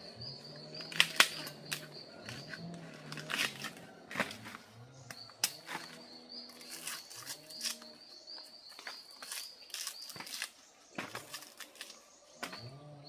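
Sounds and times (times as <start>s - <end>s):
high bird chirps: 0.0s - 13.0s
lower pitched bird calls: 0.0s - 13.0s.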